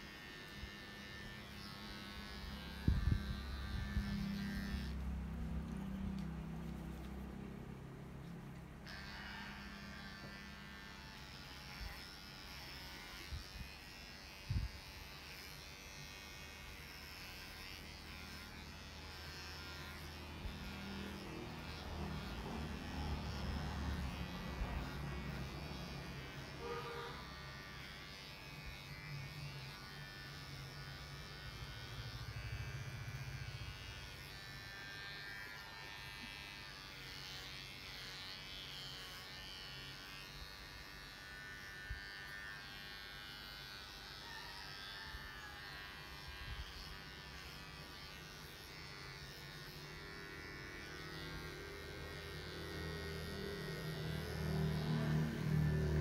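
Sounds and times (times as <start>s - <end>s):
electric clippers buzzing: 0.0s - 56.0s.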